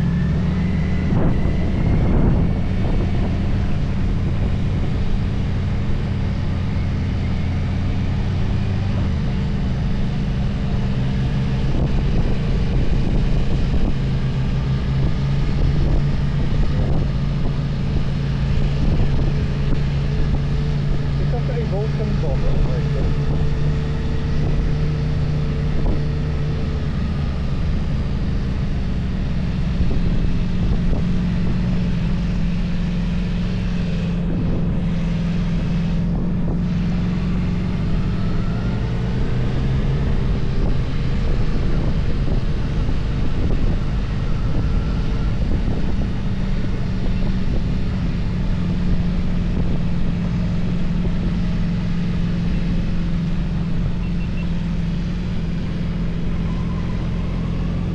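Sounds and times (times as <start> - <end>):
motorcycle engine running: 0.0 - 57.9
wind rushing over microphone: 0.0 - 57.9.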